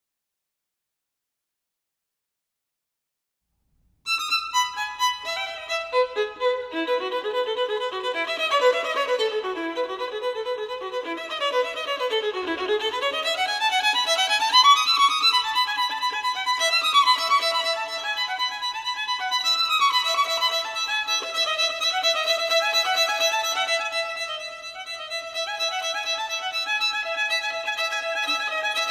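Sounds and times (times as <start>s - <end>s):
solo violin playing fast passages: 4.1s - 28.9s.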